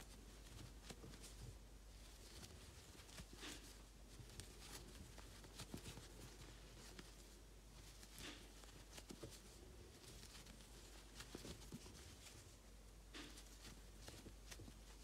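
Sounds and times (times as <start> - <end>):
yarn rustles: 0.0 - 15.0.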